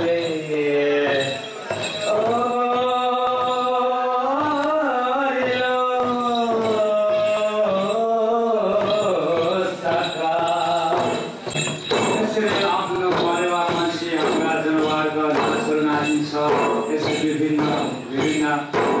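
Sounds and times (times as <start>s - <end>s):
drum beats: 0.0s - 19.0s.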